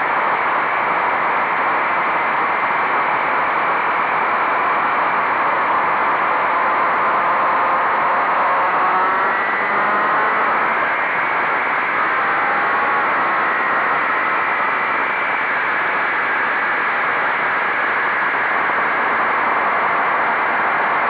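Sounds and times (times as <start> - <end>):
faint motorcycle engine whine: 0.0 - 21.0.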